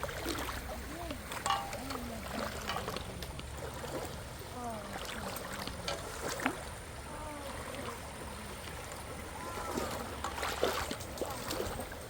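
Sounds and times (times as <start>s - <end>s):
creek water gurgling: 0.0s - 12.0s
splashes of someone wading: 0.0s - 12.0s.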